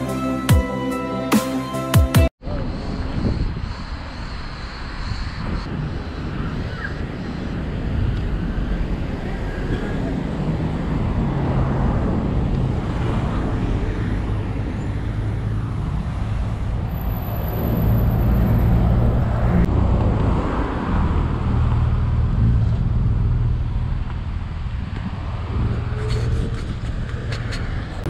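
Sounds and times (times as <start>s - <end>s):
vehicle engines and road noise: 0.0s - 28.0s.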